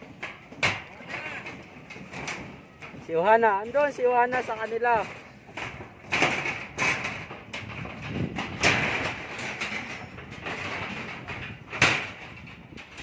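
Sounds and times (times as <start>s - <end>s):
construction site noise: 0.0s - 13.0s
metal clanks and knocks: 0.0s - 13.0s.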